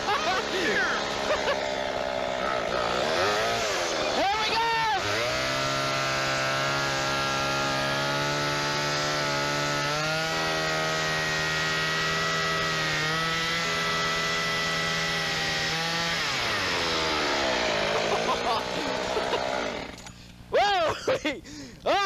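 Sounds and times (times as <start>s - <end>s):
chainsaw engine running: 0.0s - 20.5s.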